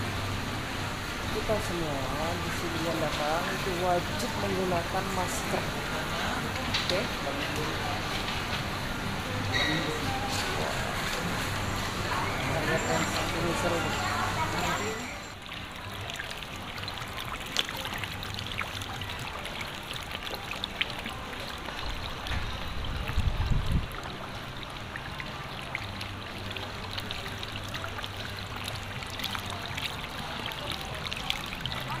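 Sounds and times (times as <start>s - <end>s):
pond water trickling: 0.0s - 32.0s.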